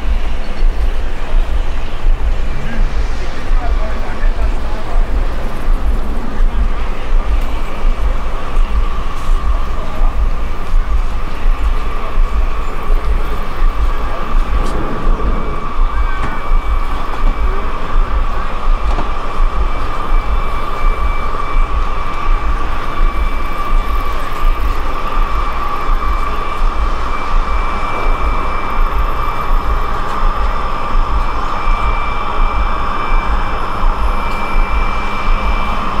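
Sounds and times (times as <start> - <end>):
dense steady drone noise: 0.0 - 36.0
throbbing low rumble: 0.0 - 36.0.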